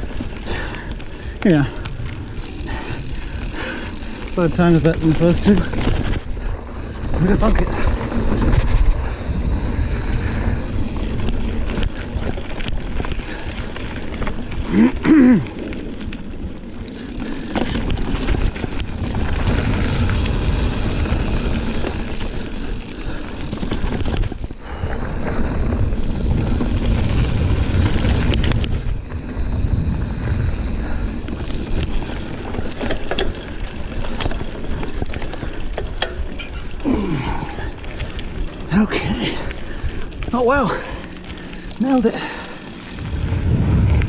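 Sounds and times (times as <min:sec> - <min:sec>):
bike clicks and rattles: 0:00.0 - 0:44.0
bike tyres rumbling on dirt: 0:00.0 - 0:44.0.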